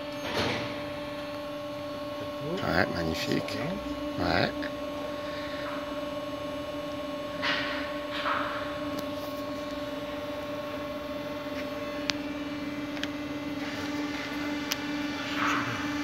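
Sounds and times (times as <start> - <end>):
lathe humming: 0.0 - 16.0.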